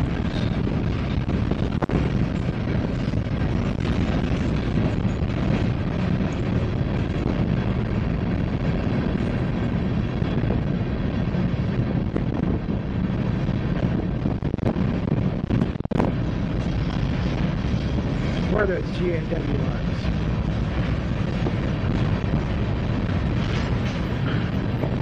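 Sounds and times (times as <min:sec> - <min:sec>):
freight train wheels rumbling on rails: 0:00.0 - 0:25.0.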